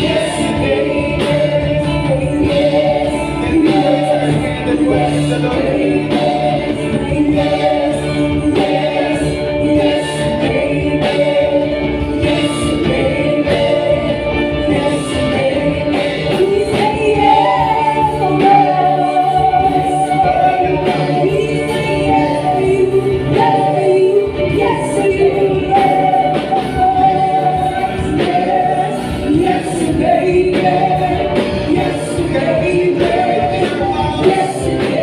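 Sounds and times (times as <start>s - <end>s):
drums and backing instruments: 0.0s - 35.0s
singers performing a praise song: 0.0s - 35.0s.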